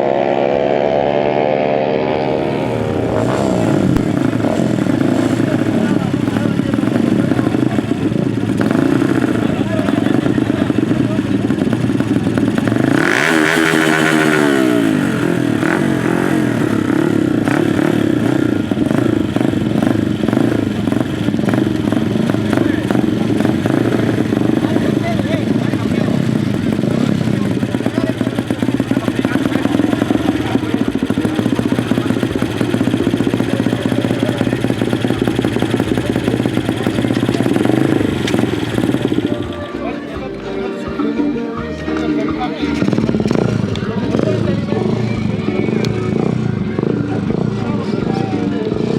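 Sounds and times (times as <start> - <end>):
dirt bike engines running hard: 0.0 - 48.9.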